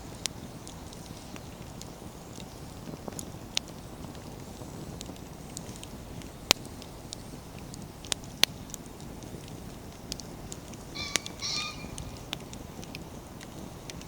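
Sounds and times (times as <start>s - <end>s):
fire low rush: 0.0s - 14.0s
firewood crackling and popping: 0.0s - 14.0s.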